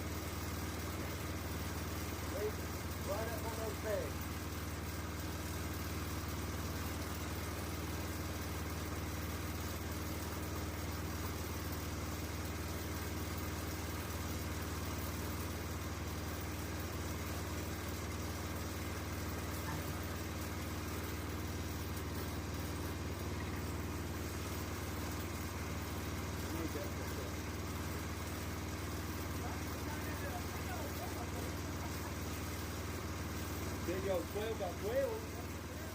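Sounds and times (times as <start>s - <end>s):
sawmill engine humming: 0.0s - 35.9s.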